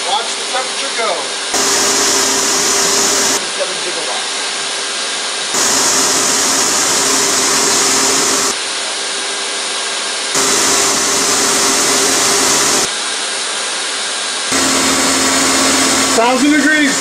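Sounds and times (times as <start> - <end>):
hot-air blower rushing: 1.2 - 9.2, 10.3 - 17.0.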